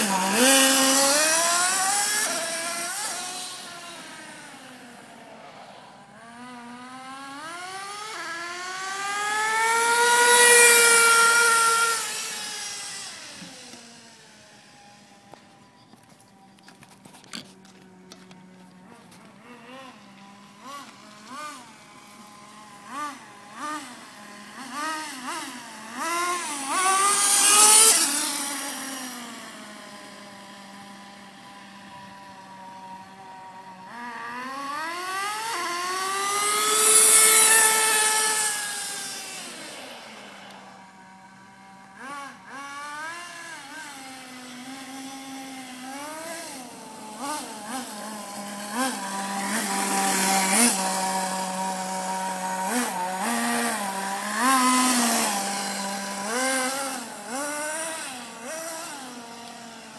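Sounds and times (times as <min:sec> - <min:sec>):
model engine revving: 0:00.0 - 0:15.6, 0:17.8 - 0:59.9.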